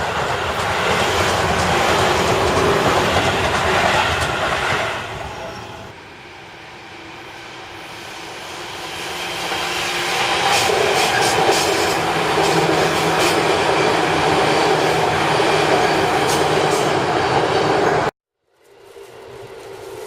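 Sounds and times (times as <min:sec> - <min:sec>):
electric train passing: 0:00.0 - 0:20.0.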